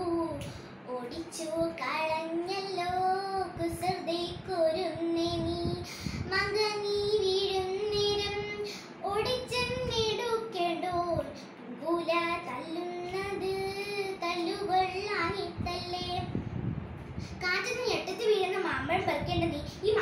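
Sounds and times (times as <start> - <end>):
girl singing: 0.0 - 16.4, 17.2 - 20.0.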